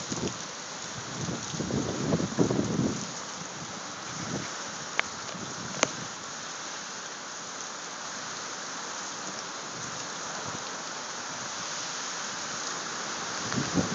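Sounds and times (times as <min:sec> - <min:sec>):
steady rain hissing: 0:00.0 - 0:13.9.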